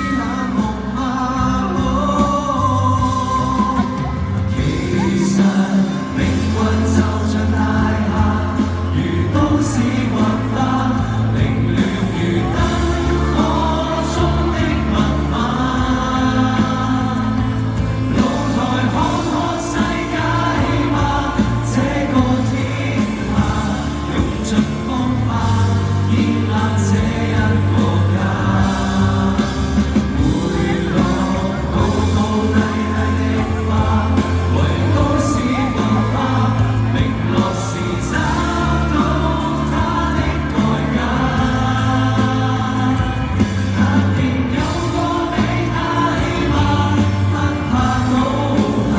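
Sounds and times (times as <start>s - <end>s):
choir-like backing voices: 0.0s - 48.9s
live pop band music: 0.0s - 48.9s
person singing: 0.0s - 48.9s
steady bass line: 0.0s - 48.9s.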